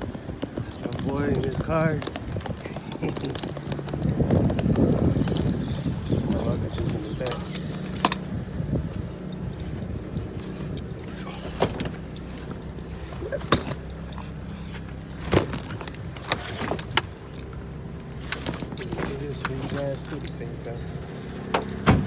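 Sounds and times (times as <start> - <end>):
trunk and luggage clicks and knocks: 0.0 - 20.8, 21.4 - 22.0
car engine idling: 0.0 - 22.0.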